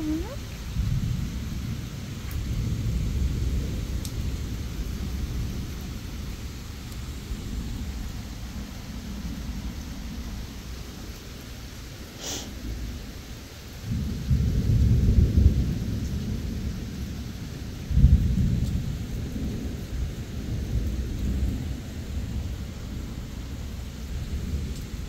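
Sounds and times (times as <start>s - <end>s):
thunder rumbling: 0.0s - 11.0s, 13.8s - 25.0s
steady rain: 0.0s - 25.0s.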